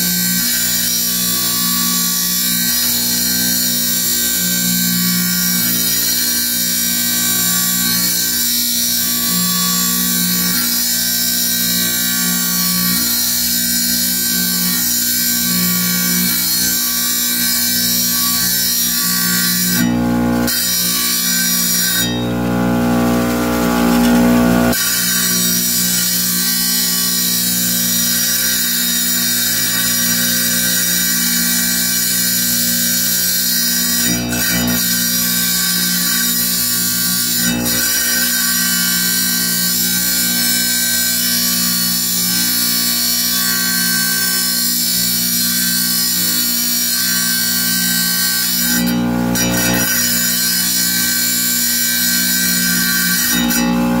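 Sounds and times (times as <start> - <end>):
wet tile saw cutting stone: 0.0 - 54.0.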